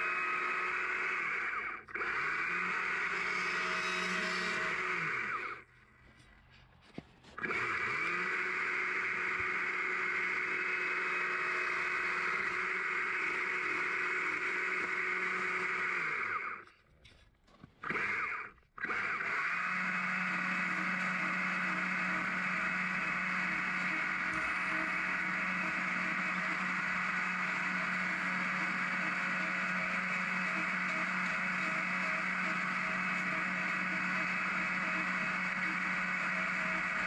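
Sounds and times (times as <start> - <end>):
chainsaw cutting log: 0.0 - 5.7, 7.3 - 16.7, 17.8 - 37.0.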